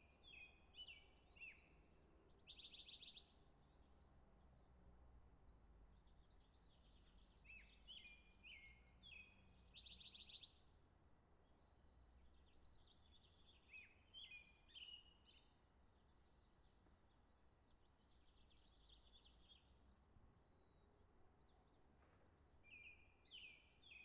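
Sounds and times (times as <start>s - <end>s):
songbird chirping and trilling: 0.0s - 4.7s, 5.4s - 10.9s, 11.5s - 20.0s, 20.7s - 24.0s.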